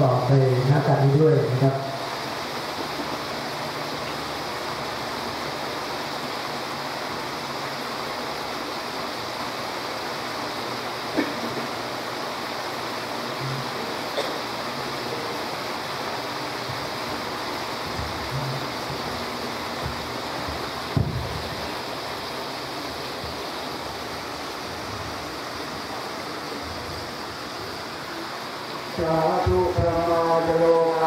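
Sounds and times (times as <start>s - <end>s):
rushing water noise: 0.0s - 31.0s.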